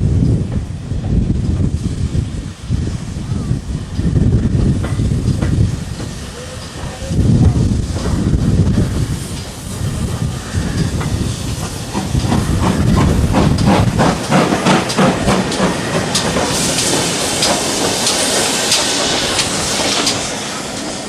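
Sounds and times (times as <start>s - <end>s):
high hiss: 1.7s - 21.0s
train wheels clacking: 3.9s - 21.0s.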